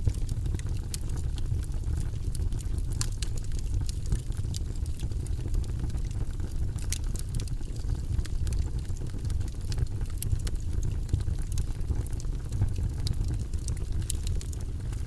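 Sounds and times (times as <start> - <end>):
burning wood pops and crackles: 0.0 - 15.0
low rumble of flame: 0.0 - 15.0.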